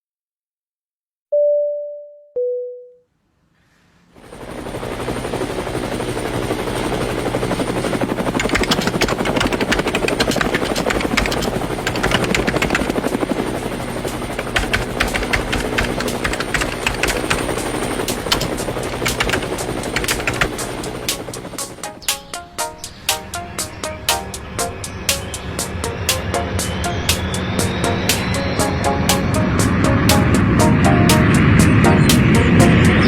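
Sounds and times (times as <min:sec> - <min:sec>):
aircraft engine chopping drone: 0:04.2 - 0:33.0.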